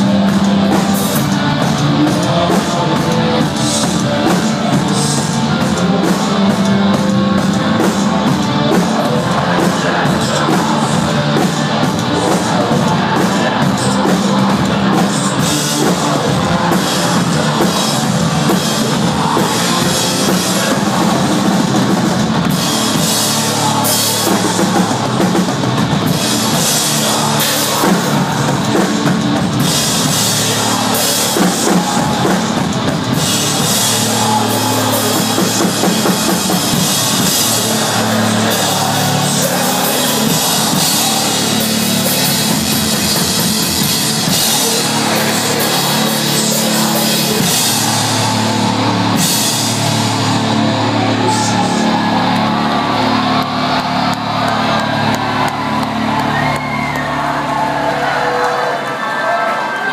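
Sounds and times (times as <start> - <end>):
drum kit: 0.0 - 59.9
live metal band playing: 0.0 - 59.9.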